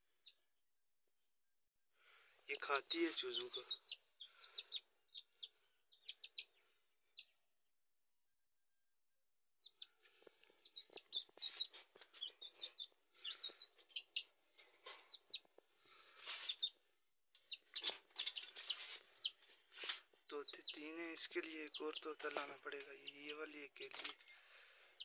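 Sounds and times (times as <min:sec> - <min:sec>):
chick peeping: 0:00.1 - 0:00.4, 0:02.3 - 0:07.4, 0:09.6 - 0:25.0.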